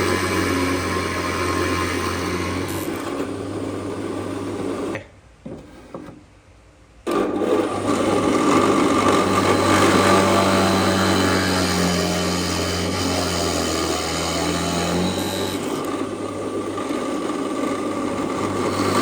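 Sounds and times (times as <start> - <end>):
power tool cutting wood: 0.0 - 4.6, 7.1 - 19.0.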